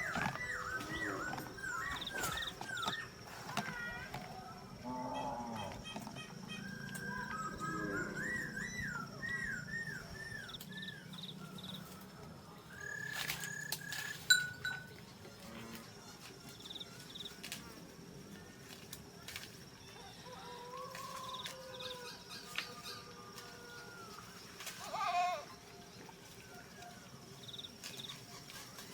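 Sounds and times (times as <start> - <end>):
farm animals calling: 0.0 - 17.6, 19.8 - 28.9.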